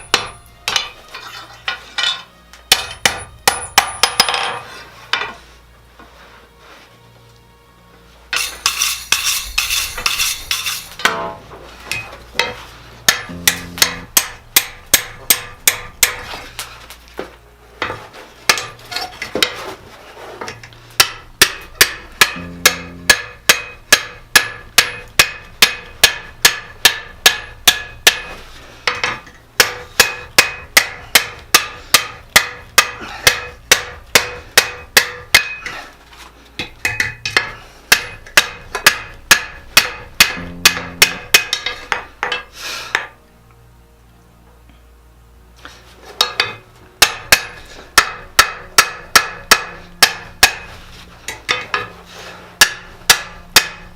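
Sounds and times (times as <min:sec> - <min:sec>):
hammer striking steel on anvil: 0:00.0 - 0:05.3, 0:08.3 - 0:16.4, 0:17.8 - 0:19.6, 0:20.5 - 0:35.8, 0:36.6 - 0:43.2, 0:46.2 - 0:51.9, 0:52.6 - 0:53.9.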